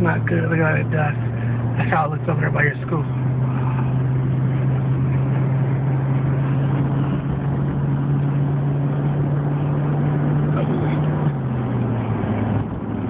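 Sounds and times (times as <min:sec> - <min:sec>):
engine and tyres droning: 0:00.0 - 0:13.0.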